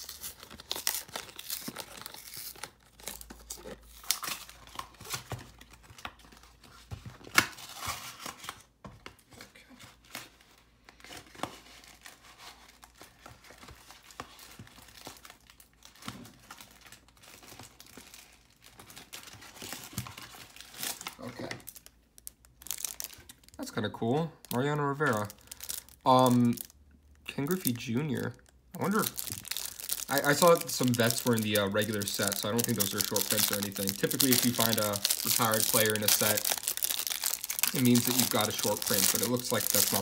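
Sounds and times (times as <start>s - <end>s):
wrapper crinkling and ripping: 0.0s - 8.7s, 10.0s - 23.8s, 24.4s - 26.8s, 27.5s - 40.0s.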